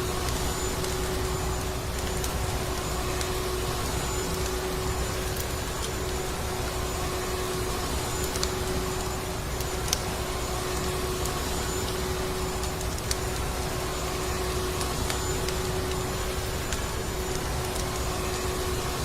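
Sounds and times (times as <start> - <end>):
sharp crackles: 0.0 - 19.0.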